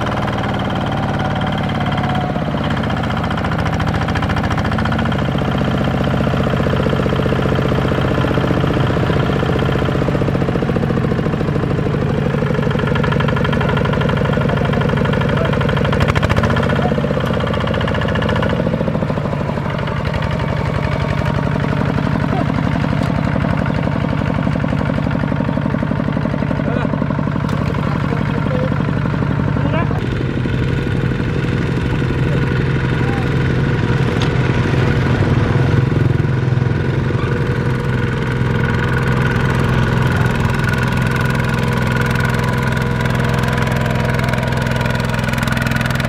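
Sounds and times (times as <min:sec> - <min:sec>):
diesel engine running under load: 0:00.0 - 0:46.0.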